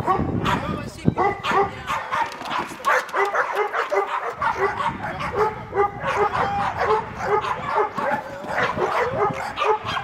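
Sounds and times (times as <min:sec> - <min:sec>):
dog barking rapidly: 0:00.0 - 0:10.0.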